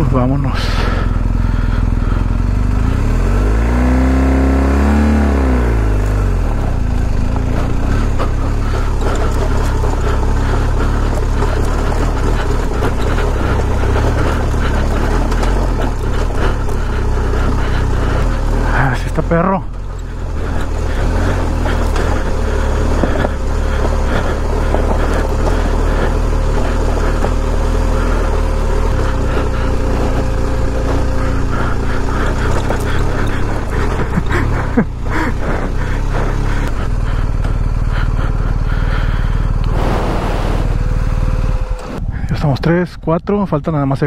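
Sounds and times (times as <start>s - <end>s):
motorcycle engine rumbling: 0.0s - 44.0s.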